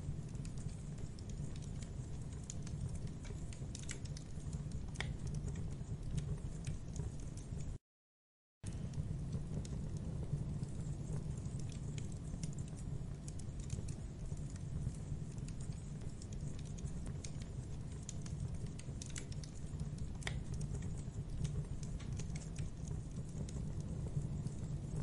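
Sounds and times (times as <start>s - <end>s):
low rumble of flames: 0.0s - 7.8s, 8.6s - 25.0s
wood crackling and popping: 0.0s - 7.8s, 8.6s - 25.0s.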